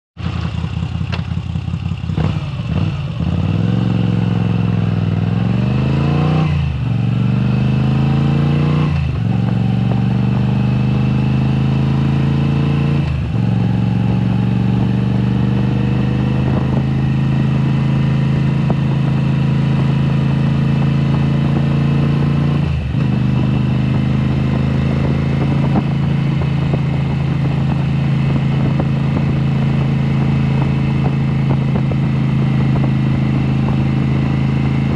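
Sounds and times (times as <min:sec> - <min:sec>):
motorcycle revving through gears: 0:00.2 - 0:34.9.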